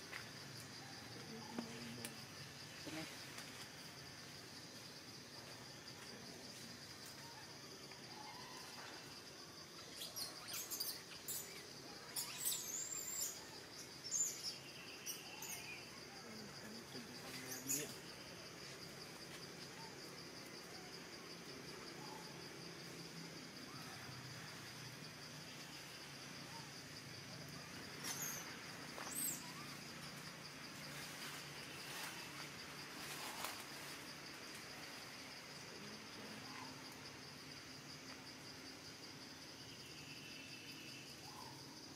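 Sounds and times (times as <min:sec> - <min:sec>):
insect drone: 0:00.0 - 0:41.9.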